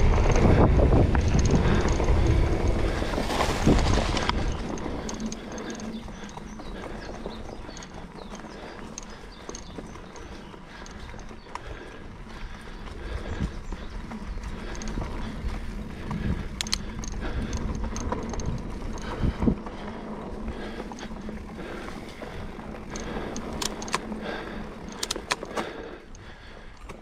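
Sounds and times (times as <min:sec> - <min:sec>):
bike chain rattling and clicking: 0:00.0 - 0:27.0
bike tyre rumble on dirt: 0:00.0 - 0:27.0.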